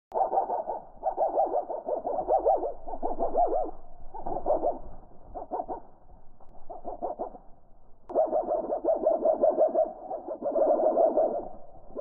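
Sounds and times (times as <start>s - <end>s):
slowed bird twittering: 0.1s - 12.0s.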